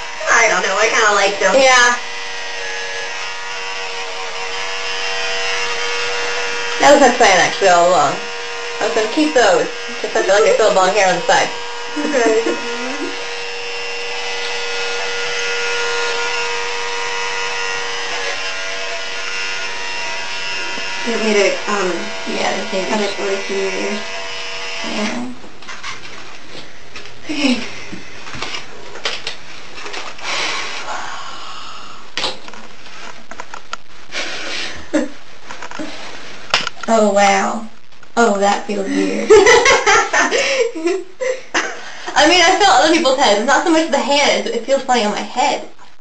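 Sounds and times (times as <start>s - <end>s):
electric hair clippers buzzing: 0.0s - 37.5s, 38.5s - 45.8s.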